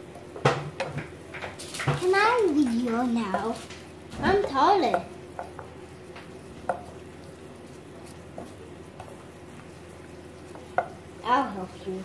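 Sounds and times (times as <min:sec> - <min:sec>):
sugar sizzling in a pot: 0:00.0 - 0:12.0
wooden spatula scraping pot: 0:00.8 - 0:12.0.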